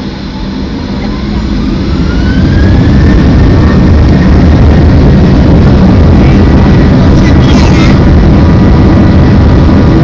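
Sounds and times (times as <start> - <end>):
jet engines spooling up: 0.0 - 10.0
thin rising whine: 0.0 - 10.0.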